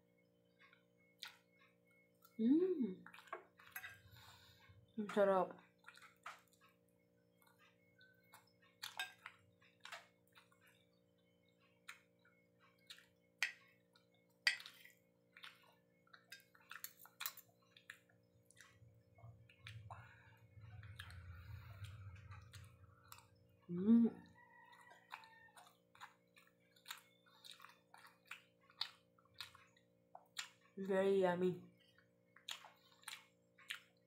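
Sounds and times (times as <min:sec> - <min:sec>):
close-up chewing: 0:03.0 - 0:30.9, 0:31.7 - 0:34.0.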